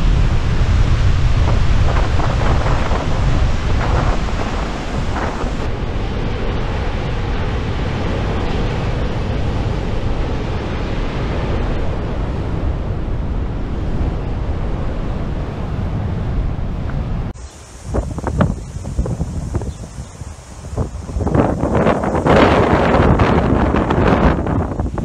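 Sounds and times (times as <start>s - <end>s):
storm surf breaking: 0.0s - 25.0s
wind buffeting microphone: 0.0s - 25.0s.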